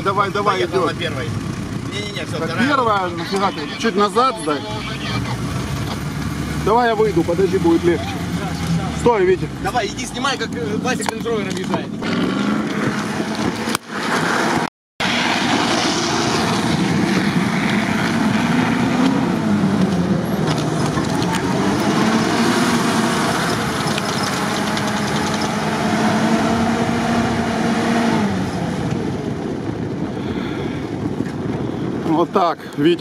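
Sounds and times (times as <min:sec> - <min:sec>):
off-road vehicle engine revving: 0:00.0 - 0:32.0
steady rushing noise: 0:00.1 - 0:33.0.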